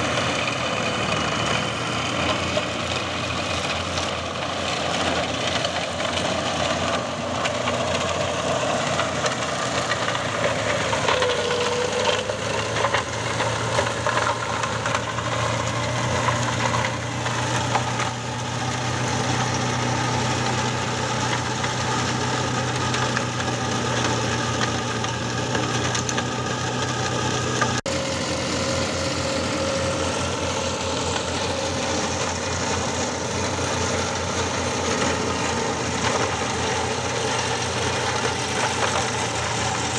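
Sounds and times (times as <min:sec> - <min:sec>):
tractor engine running: 0:00.0 - 0:39.9
branches crackling in mulcher: 0:00.2 - 0:39.9.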